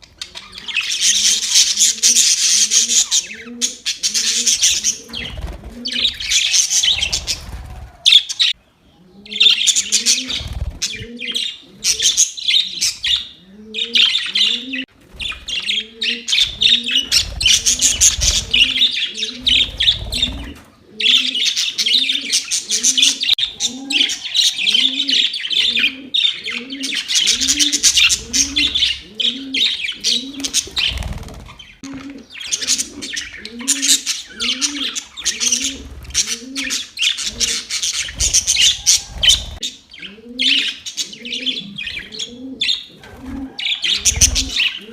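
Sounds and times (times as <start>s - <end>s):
budgerigars chirping and chattering: 0.0s - 8.6s, 9.2s - 44.9s.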